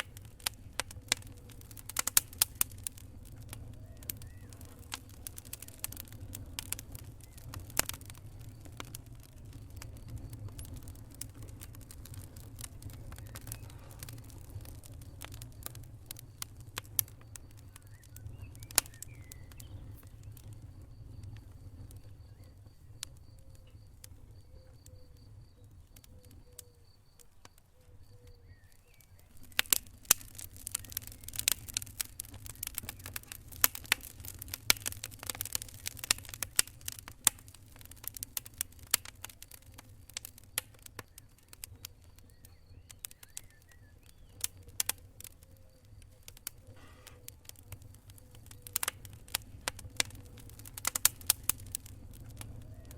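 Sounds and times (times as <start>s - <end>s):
low rumble of flames: 0.0s - 52.9s
wood fire crackling: 0.0s - 52.9s.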